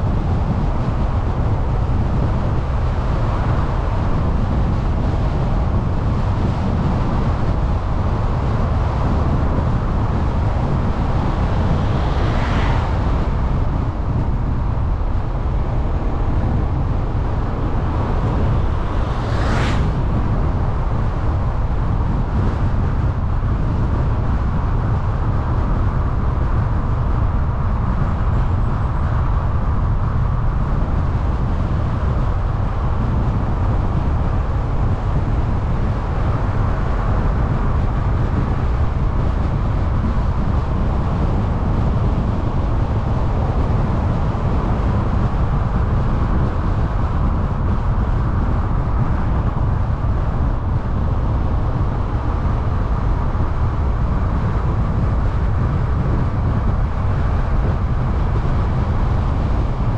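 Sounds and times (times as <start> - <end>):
car road noise: 0.0 - 59.9.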